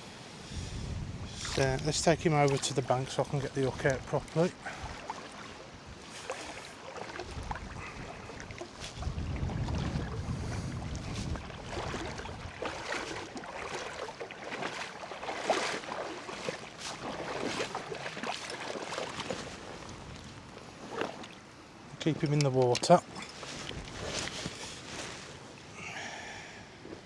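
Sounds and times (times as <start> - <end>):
water sloshing around legs: 1.3 - 25.8.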